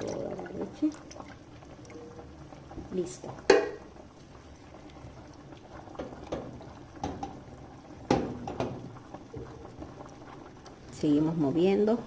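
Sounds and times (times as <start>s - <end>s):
sauce bubbling: 0.0s - 12.0s.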